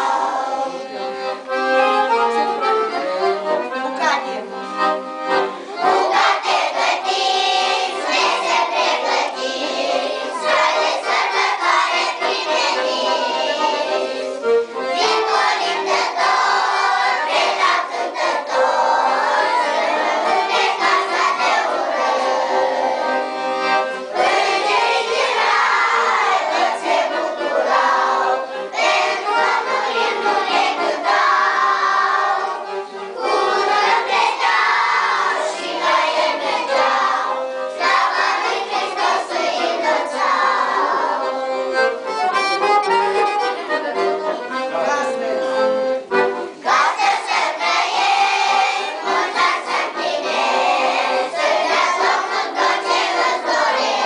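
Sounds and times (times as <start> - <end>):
children singing: 0.0 - 54.0
instrumental accompaniment: 0.0 - 54.0.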